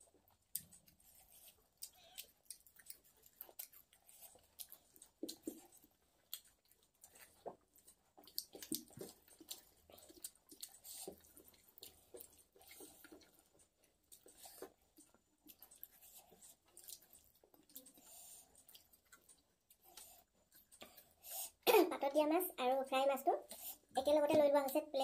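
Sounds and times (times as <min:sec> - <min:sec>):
faint chewing with mouth clicks: 0:00.0 - 0:25.0.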